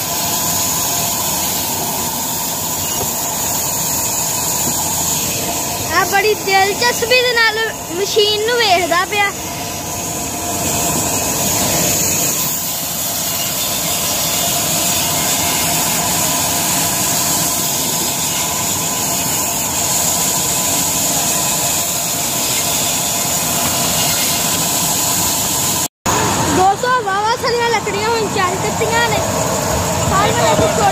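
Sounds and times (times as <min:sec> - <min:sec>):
band saw cutting wood: 0:00.0 - 0:26.3.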